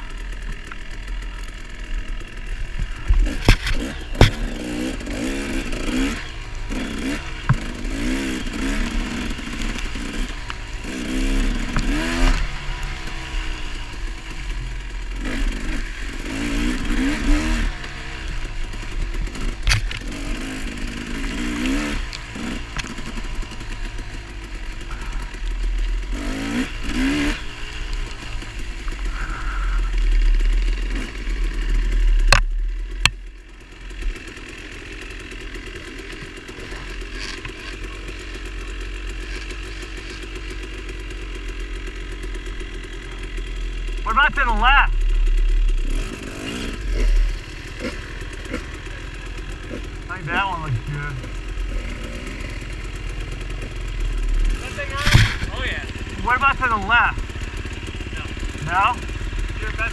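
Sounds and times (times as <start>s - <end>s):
motorcycle engine revving: 0.0s - 59.9s
motorcycle knocking on obstacles: 0.4s - 13.6s, 14.5s - 34.5s, 45.0s - 59.9s.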